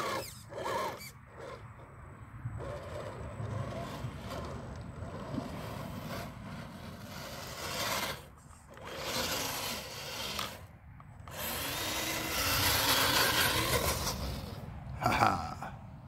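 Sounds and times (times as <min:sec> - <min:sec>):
rc car electric motor whirring: 0:00.0 - 0:01.9, 0:02.5 - 0:14.7
tyres scrabbling on dirt: 0:00.0 - 0:14.6.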